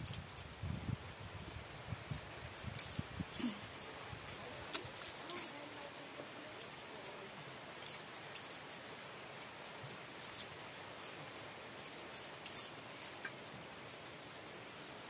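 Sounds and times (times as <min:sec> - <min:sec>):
bangles clinking: 0:02.5 - 0:15.0.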